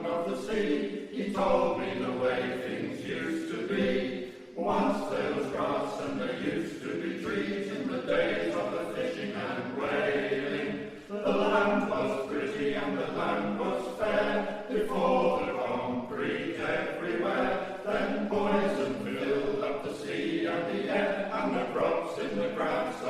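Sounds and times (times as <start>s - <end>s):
male choir singing in harmony: 0.0s - 23.0s.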